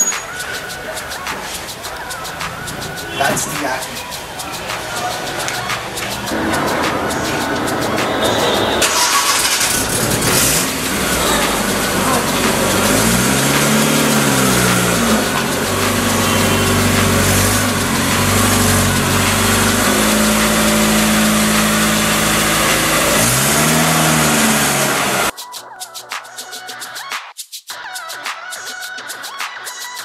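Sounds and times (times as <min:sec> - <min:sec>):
music: 0:00.0 - 0:24.4, 0:25.3 - 0:30.0
car engine revving: 0:01.2 - 0:25.3.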